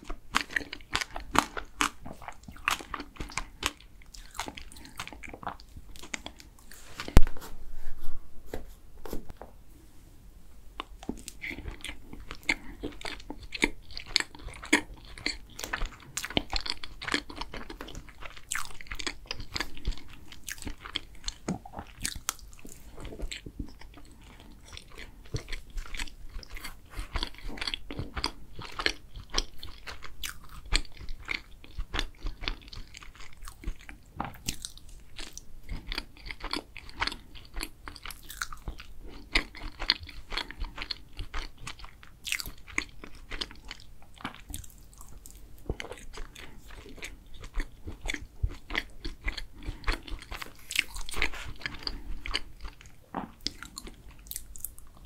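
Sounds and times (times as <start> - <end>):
wet chewing: 0.0 - 7.2, 10.8 - 55.0.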